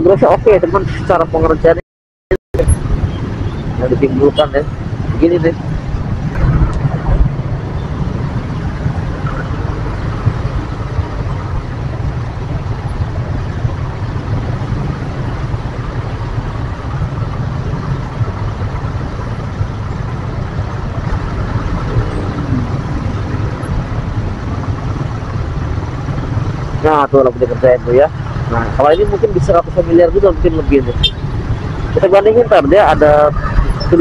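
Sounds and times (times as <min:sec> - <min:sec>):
traffic noise: 0:00.0 - 0:01.8, 0:02.6 - 0:34.0
low engine rumble: 0:02.6 - 0:34.0.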